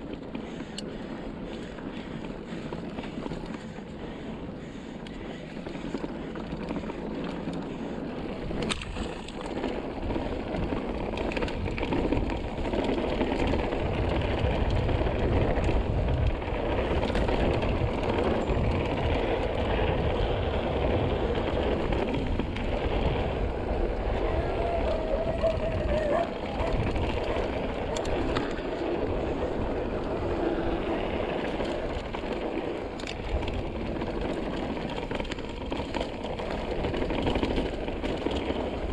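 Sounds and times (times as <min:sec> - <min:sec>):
bike rattling clicks: 0:00.0 - 0:38.9
bike tyres rolling on dirt: 0:00.0 - 0:38.9
wind over microphone: 0:07.7 - 0:38.9.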